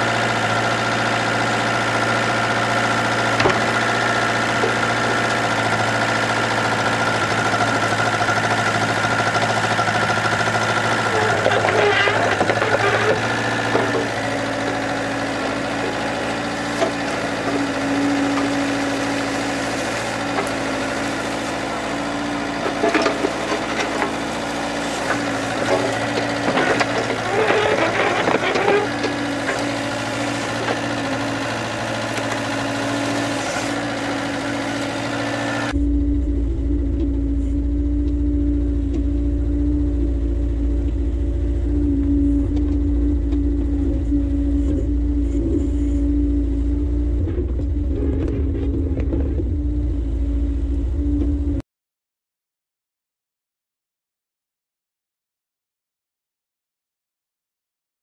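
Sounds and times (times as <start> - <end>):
excavator diesel engine: 0.0 - 51.6.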